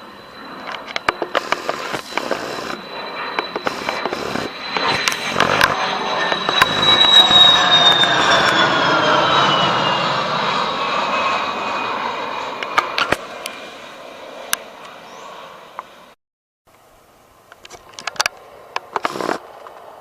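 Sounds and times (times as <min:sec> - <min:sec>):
fighter jet flying past: 0:00.0 - 0:16.2.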